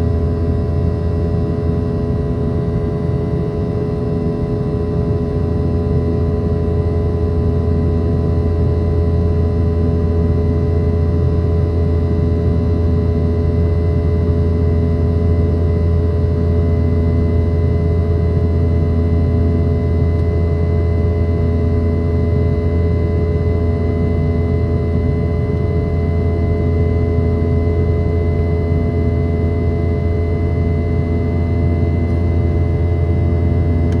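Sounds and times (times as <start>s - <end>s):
jet engines droning in cabin: 0.0s - 34.0s.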